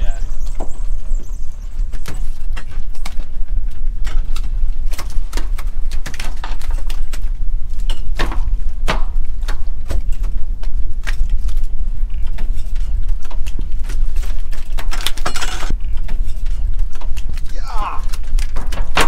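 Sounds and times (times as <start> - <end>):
low boat rumble: 0.0 - 19.0.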